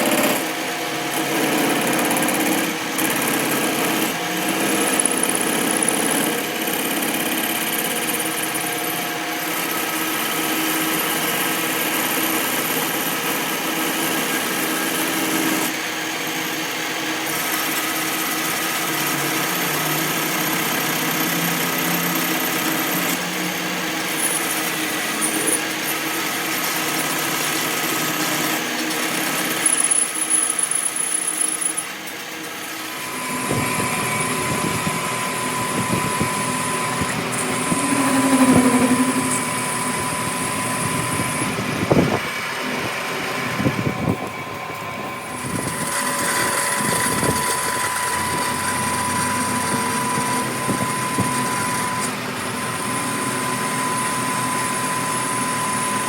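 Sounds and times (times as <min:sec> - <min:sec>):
small motor running: 0:00.0 - 0:44.4, 0:45.2 - 0:56.0.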